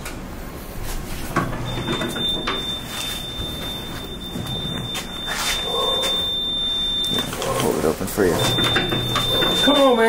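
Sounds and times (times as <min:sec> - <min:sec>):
high-pitched elevator door alarm: 0:01.3 - 0:10.0.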